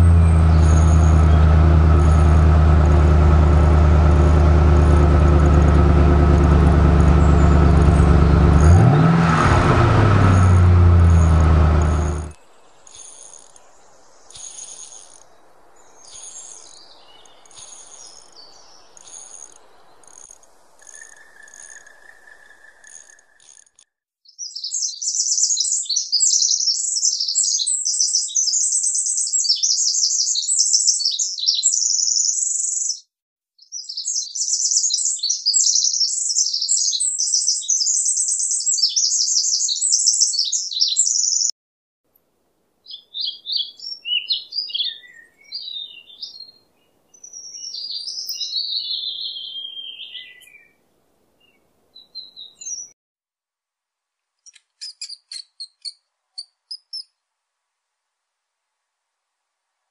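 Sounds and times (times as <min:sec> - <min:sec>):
songbird twittering trills: 0:00.0 - 0:02.8, 0:06.9 - 0:09.2, 0:10.1 - 0:41.5, 0:42.8 - 0:50.8, 0:51.4 - 0:53.0, 0:54.5 - 0:57.2.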